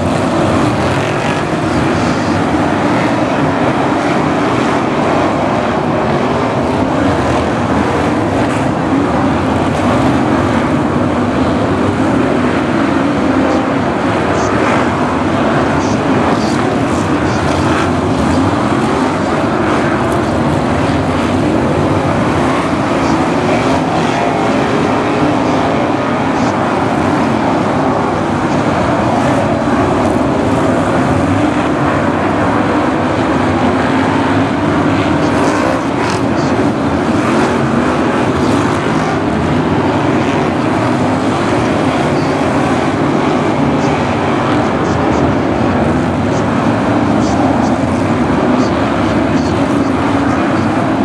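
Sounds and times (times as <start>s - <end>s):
racing car engines: 0.0s - 51.0s.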